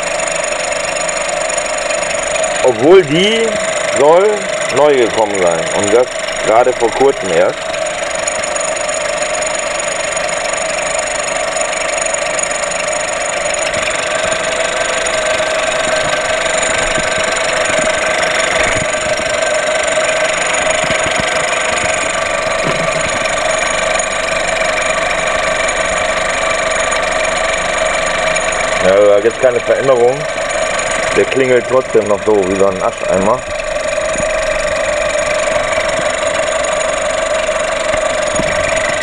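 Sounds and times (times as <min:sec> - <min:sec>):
car engine idling: 0:00.0 - 0:39.0
metallic engine clatter: 0:00.0 - 0:39.0.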